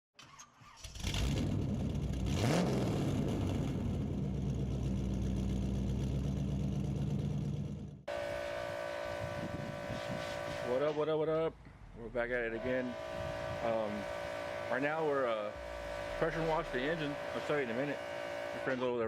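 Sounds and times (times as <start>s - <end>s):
car engine revving: 0.9s - 11.0s, 12.1s - 18.8s
steady engine hum: 1.8s - 11.0s, 11.6s - 19.0s.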